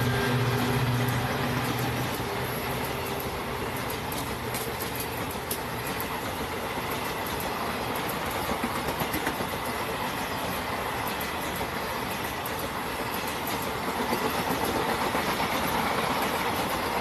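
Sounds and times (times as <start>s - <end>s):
passenger train passing at speed: 0.0s - 17.0s
wheels clacking over rail joints: 0.0s - 17.0s.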